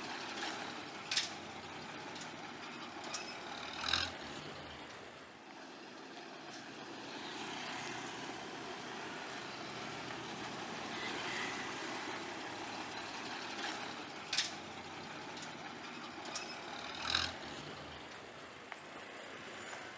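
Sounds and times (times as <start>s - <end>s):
heavy truck engine rumbling: 0.0s - 19.9s.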